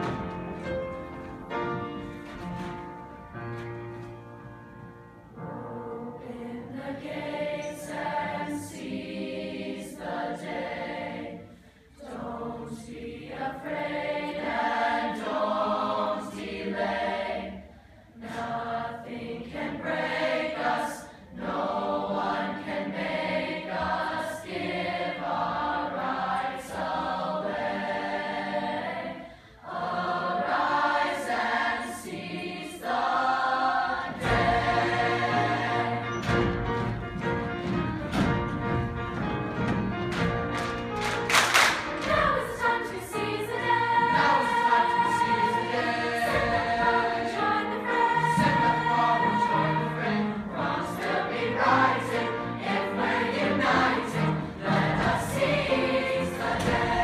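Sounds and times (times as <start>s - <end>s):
musical accompaniment: 0.0s - 57.0s
choir singing: 5.2s - 37.4s, 41.3s - 57.0s.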